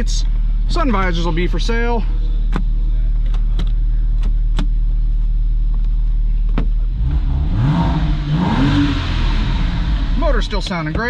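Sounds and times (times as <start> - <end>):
car engine idling: 0.0 - 11.0
car engine revving: 0.0 - 11.0.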